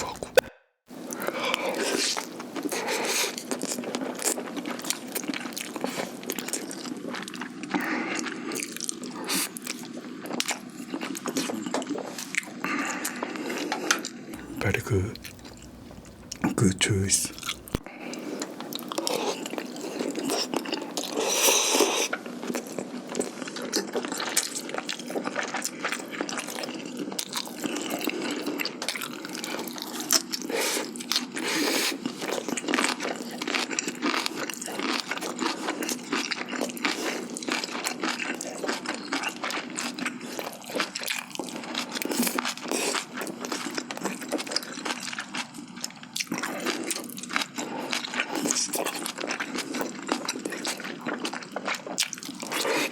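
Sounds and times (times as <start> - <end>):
chewing and crunching: 0.0 - 52.9.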